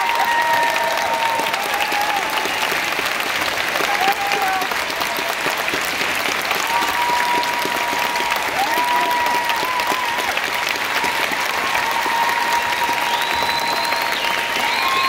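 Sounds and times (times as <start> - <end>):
audience cheering: 0.0 - 15.0
audience clapping: 0.0 - 15.0.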